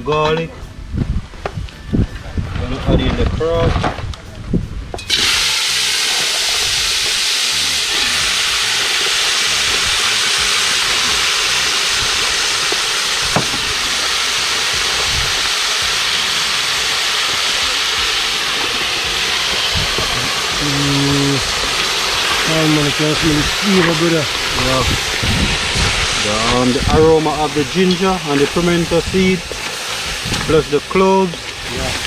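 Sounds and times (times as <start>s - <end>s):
food frying in hot oil: 5.1s - 32.0s.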